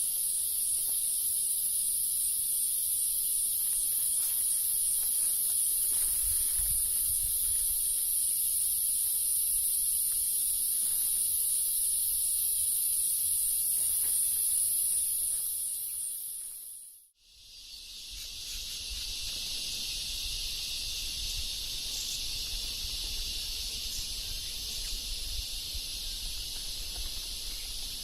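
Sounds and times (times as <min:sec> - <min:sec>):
forest insects chorus: 0:00.0 - 0:28.0.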